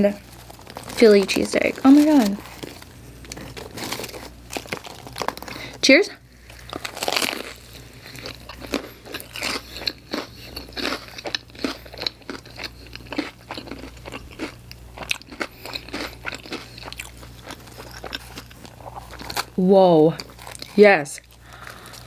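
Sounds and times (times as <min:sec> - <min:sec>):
crunching and chewing: 0:00.2 - 0:22.0.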